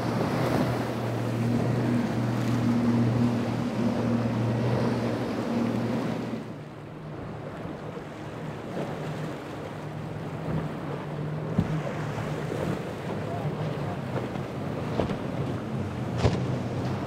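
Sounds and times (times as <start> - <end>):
powerboat engines humming: 0.0 - 17.0
water noise: 0.0 - 17.0
wind: 0.0 - 17.0.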